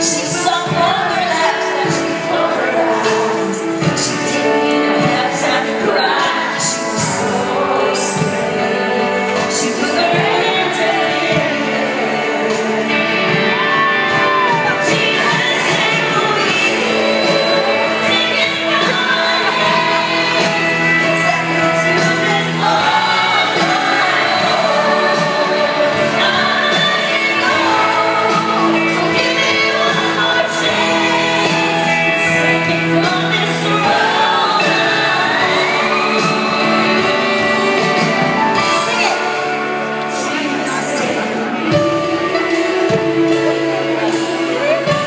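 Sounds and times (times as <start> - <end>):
live band playing: 0.0 - 45.0
woman singing lead: 0.0 - 45.0.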